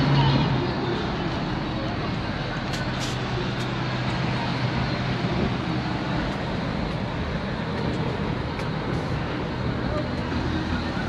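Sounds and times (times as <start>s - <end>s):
idling cars rumbling: 0.0s - 11.0s.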